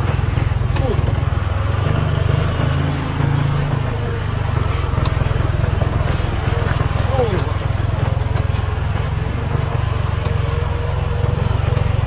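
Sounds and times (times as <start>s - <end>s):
diesel truck engine chugging: 0.0s - 12.0s.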